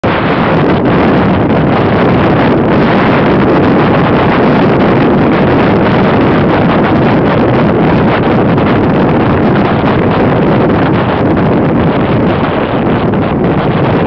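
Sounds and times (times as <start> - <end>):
motorcycle engine and road noise: 0.0 - 14.0
wind rushing over microphone: 0.0 - 14.0.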